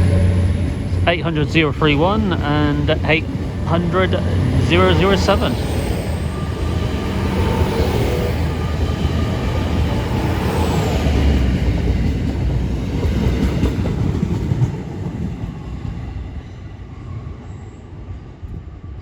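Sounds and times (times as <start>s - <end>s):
wheels on rail rumble: 0.0s - 16.4s
diesel train passing: 0.0s - 19.0s.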